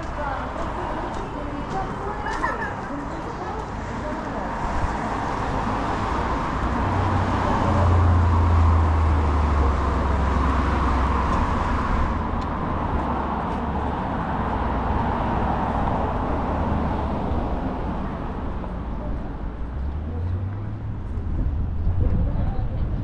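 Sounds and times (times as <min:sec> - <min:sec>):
street traffic noise: 0:00.0 - 0:23.0
vehicle engine rumble passing: 0:00.0 - 0:23.0.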